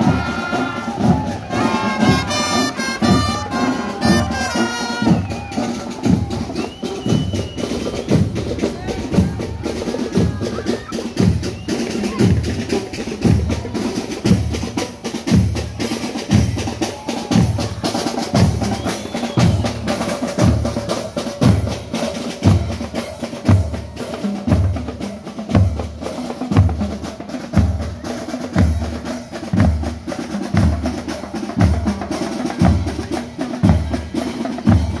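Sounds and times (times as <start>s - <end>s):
snare drum rolls: 0.0s - 35.0s.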